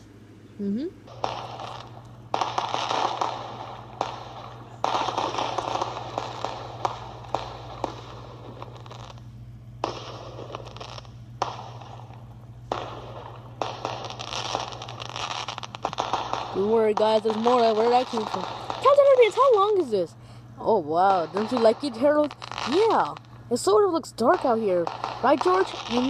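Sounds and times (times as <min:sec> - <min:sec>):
fireworks sharp pops: 0:01.1 - 0:20.4, 0:21.0 - 0:23.6, 0:24.2 - 0:26.0
fireworks hissing and crackling: 0:01.1 - 0:26.0.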